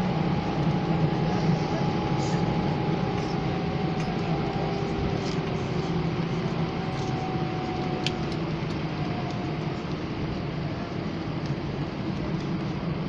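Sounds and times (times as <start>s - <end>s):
faint whine: 0.0s - 13.0s.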